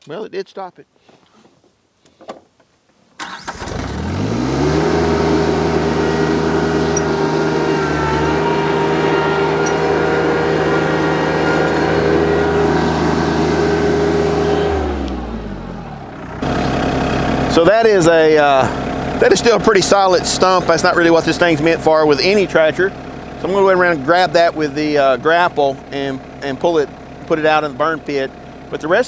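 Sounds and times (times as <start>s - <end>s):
tractor diesel engine: 3.2s - 29.0s.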